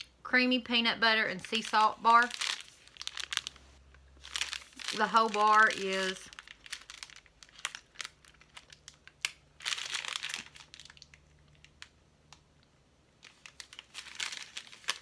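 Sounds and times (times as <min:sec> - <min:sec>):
wrapper crinkling and rustling: 0:01.4 - 0:12.0, 0:13.2 - 0:15.0.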